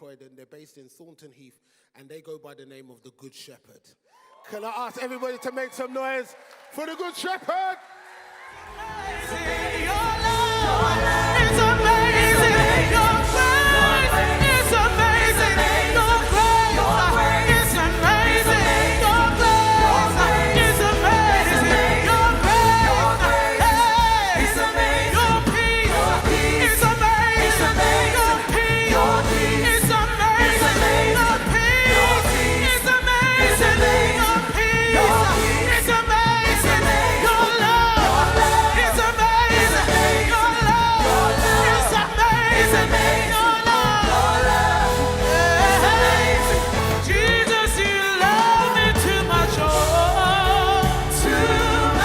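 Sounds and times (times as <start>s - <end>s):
gospel singers: 5.0s - 52.0s
band with bass and beat: 8.8s - 52.0s.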